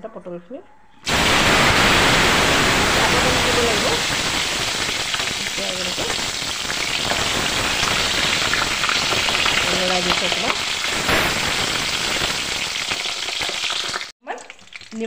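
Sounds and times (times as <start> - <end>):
frying in hot oil: 1.0 - 15.0.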